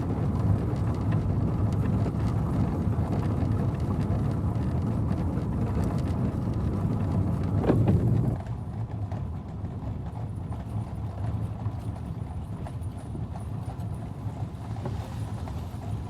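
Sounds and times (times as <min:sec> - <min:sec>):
hooves clip-clopping: 0:00.0 - 0:16.0.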